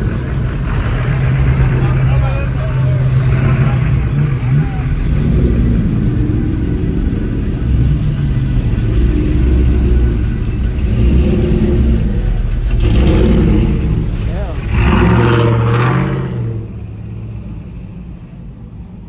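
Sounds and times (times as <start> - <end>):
car engine revving: 0.0 - 17.8
broad rush of noise: 0.0 - 19.0.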